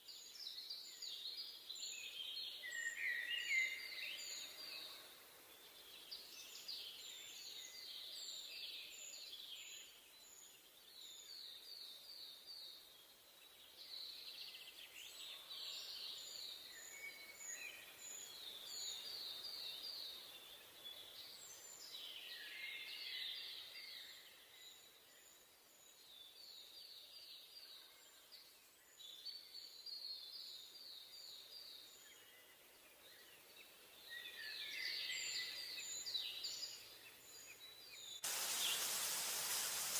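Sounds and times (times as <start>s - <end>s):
soft steady hiss: 0.0s - 39.9s
songbirds singing: 0.0s - 39.9s.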